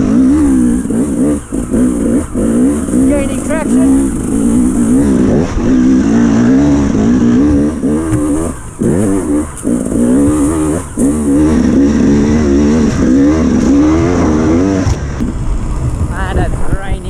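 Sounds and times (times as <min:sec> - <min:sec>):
dirt bike engine revving: 0:00.0 - 0:16.3.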